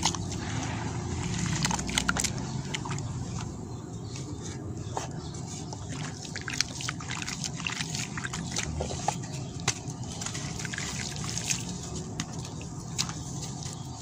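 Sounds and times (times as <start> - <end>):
water sloshing and dribbling: 0.0 - 14.0.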